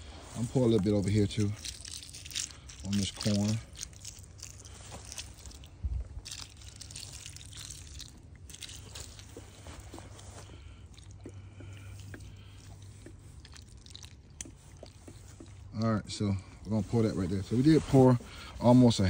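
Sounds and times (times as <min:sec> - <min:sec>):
liquid crackling on corn kernels: 0:00.0 - 0:19.0.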